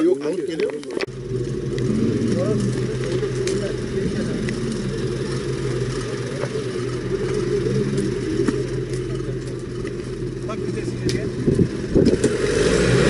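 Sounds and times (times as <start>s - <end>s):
pickup truck engine running: 1.1s - 13.0s.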